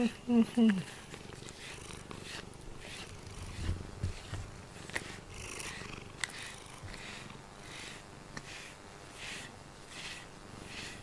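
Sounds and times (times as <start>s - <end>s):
brush swishing through fur: 0.0s - 11.0s
cat purring: 0.0s - 11.0s.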